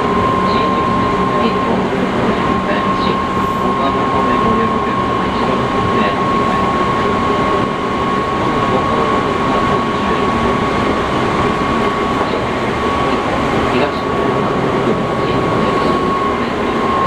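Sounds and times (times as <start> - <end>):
steady high whine: 0.0 - 17.0.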